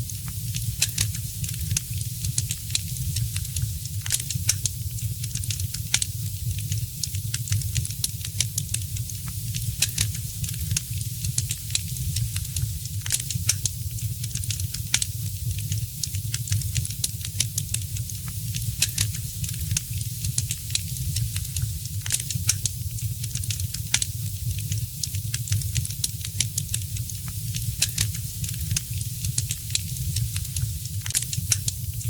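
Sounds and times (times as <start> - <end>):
wood fire crackling and popping: 0.1 - 32.0.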